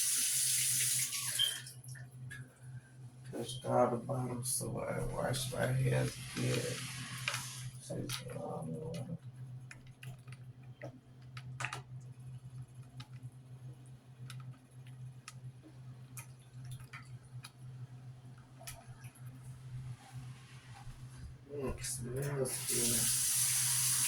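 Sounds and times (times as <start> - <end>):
steady low hum: 1.8 - 24.0.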